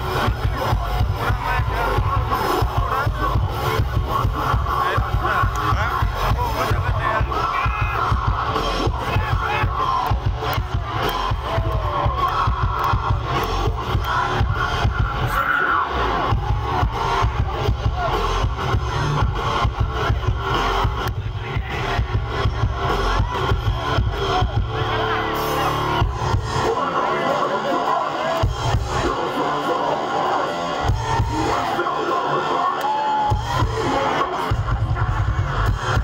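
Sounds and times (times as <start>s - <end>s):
drum kit: 0.0s - 26.8s, 28.3s - 29.3s, 30.7s - 31.7s, 33.1s - 36.0s
heavy bass: 0.0s - 32.1s, 33.1s - 36.0s
crowd noise: 0.0s - 36.0s
electric guitars: 0.0s - 36.0s.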